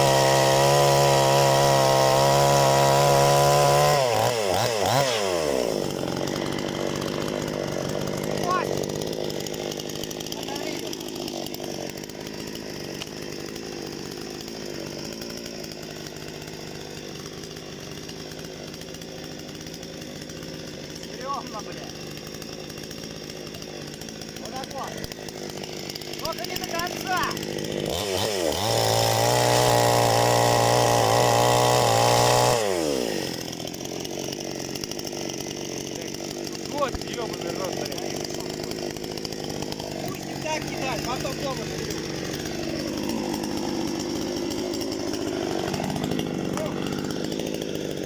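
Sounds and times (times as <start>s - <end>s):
chainsaw running: 0.0s - 48.0s.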